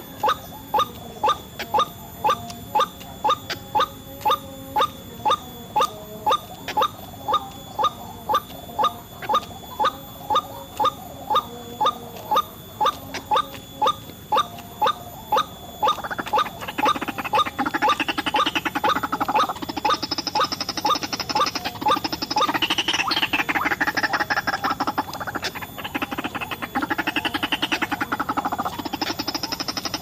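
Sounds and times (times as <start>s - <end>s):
rapid bird chattering: 0.0s - 30.0s.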